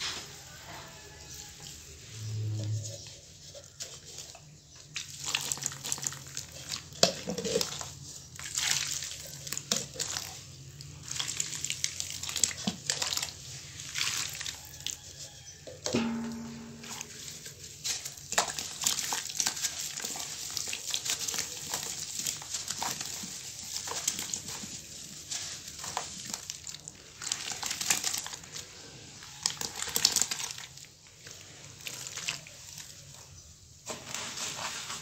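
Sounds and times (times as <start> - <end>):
water squelching and sloshing: 2.8 - 15.4, 16.0 - 33.2.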